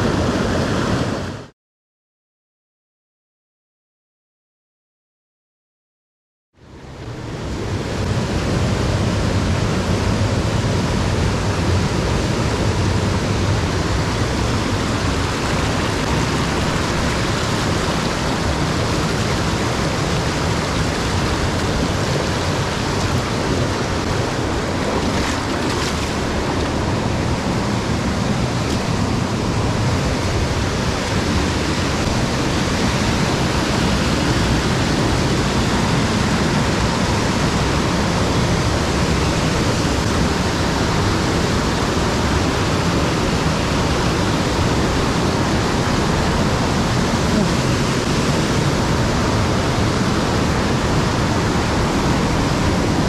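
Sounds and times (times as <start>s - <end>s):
rushing stream water: 6.7s - 53.0s.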